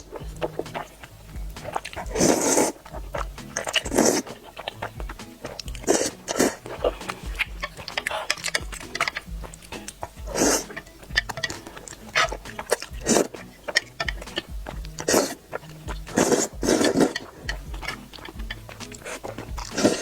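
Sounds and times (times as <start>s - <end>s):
chewing and wet mouth clicks: 0.0s - 20.0s
noodles being slurped: 0.0s - 20.0s
soft background music: 0.0s - 20.0s.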